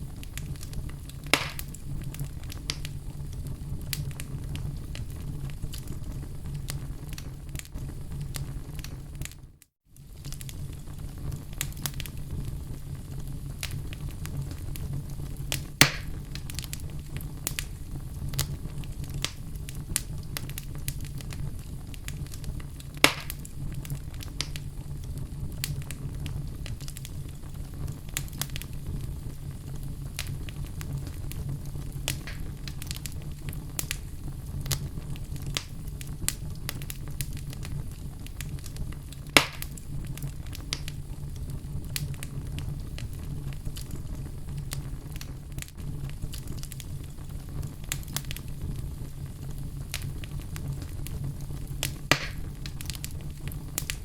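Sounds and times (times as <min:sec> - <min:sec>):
fire snapping loudly: 0:00.0 - 0:09.4, 0:10.0 - 0:54.0
fire crackling: 0:00.0 - 0:54.0.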